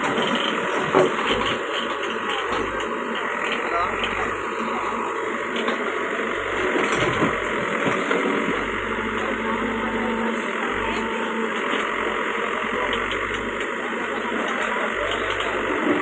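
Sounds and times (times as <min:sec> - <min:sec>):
tractor engine running: 0:00.0 - 0:16.0
people talking: 0:00.1 - 0:06.0, 0:06.6 - 0:16.0.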